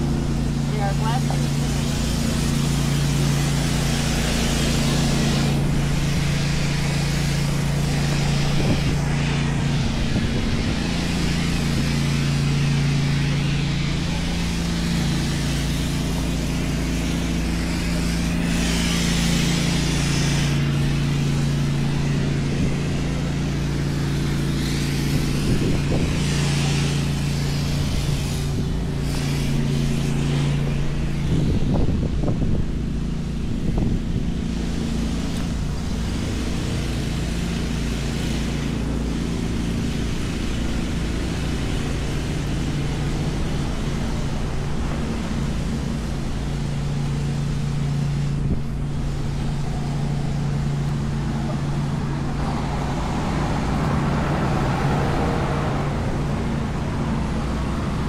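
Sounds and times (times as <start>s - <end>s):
constant rushing hiss: 0.0s - 58.0s
engine droning hum: 0.0s - 58.0s.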